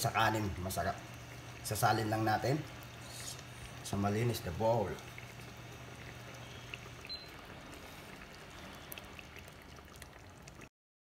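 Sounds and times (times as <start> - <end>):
stew bubbling in a pan: 0.0 - 10.7.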